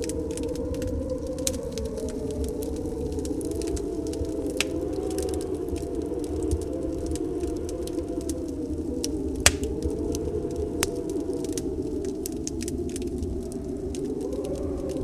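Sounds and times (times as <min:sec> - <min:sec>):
faint wavering wind whistle: 0:00.0 - 0:15.0
storm wind: 0:00.0 - 0:15.0
wood fire crackling and popping: 0:00.0 - 0:15.0.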